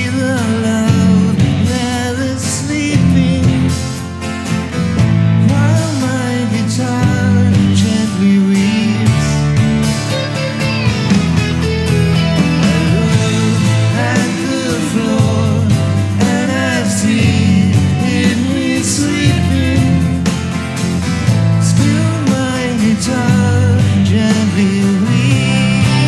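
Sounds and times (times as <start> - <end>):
person singing: 0.0 - 3.9, 5.4 - 11.0, 12.2 - 20.4, 21.5 - 26.0
band music with guitar: 0.0 - 26.0.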